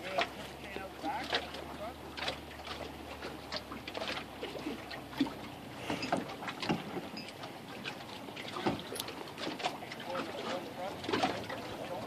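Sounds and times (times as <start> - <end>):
light knocks and splashes: 0.0 - 12.0
water lapping against boat hull: 0.0 - 12.0.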